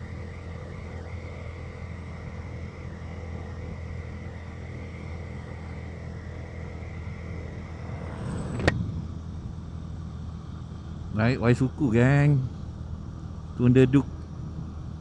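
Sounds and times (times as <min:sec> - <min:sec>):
motorcycle engine hum: 0:00.0 - 0:15.0
wind and road rumble: 0:00.0 - 0:15.0.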